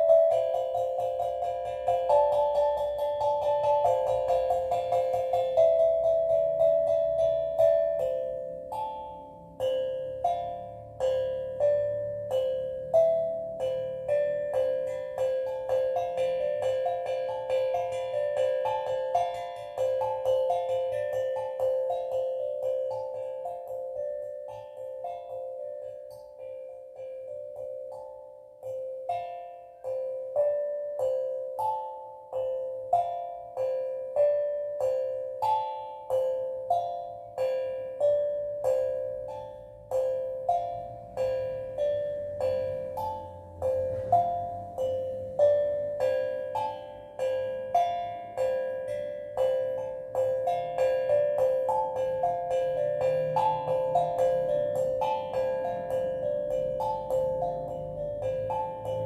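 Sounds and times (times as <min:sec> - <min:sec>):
steel drum notes: 0:00.0 - 0:59.0.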